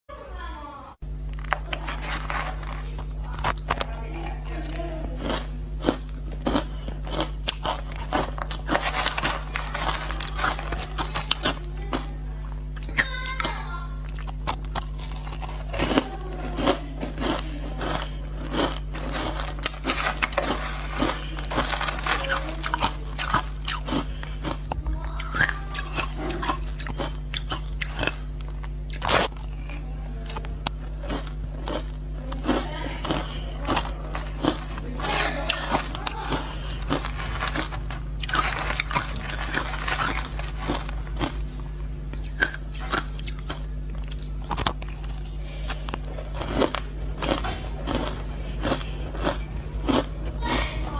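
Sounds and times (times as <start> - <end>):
low electrical hum: 0.1 - 50.9
chewing crushed ice: 1.1 - 50.9.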